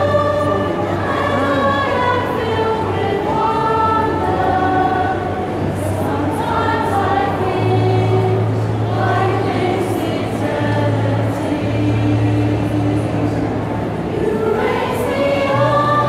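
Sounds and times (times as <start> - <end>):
choir singing a slow ballad: 0.0 - 16.0.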